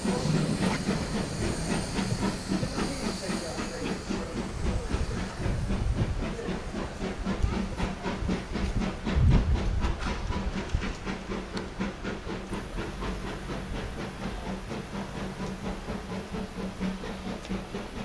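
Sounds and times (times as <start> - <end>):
steam hissing: 0.0 - 18.0
steam locomotive exhaust beats: 0.0 - 18.0.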